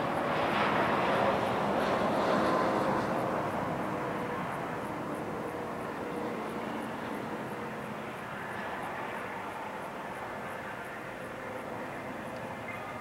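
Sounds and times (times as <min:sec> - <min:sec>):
distant locomotive engine drone: 0:00.0 - 0:13.0.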